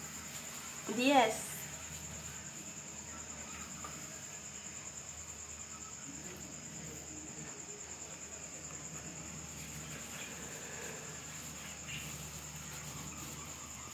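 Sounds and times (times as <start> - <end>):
insect chorus trilling: 0.0 - 13.9.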